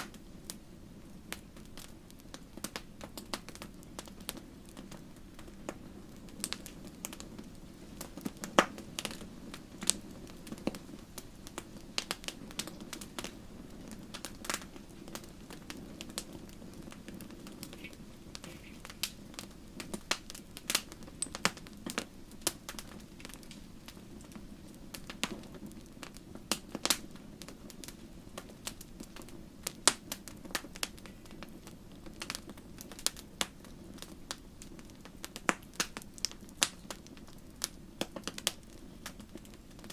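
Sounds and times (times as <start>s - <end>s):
low sound of flames: 0.0s - 39.9s
wood fire crackling: 0.0s - 39.9s.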